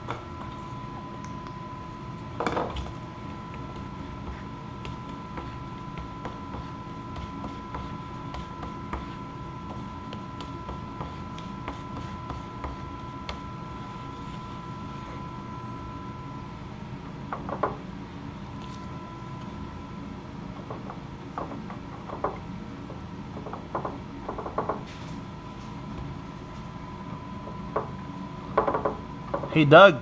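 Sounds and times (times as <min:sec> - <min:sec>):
faint high hum: 0:00.0 - 0:30.0.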